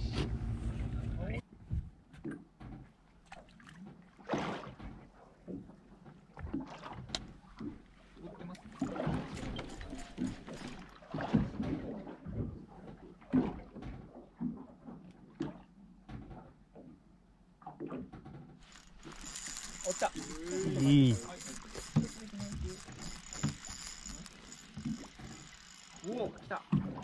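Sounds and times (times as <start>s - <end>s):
water lapping against boat hull: 2.0s - 27.0s.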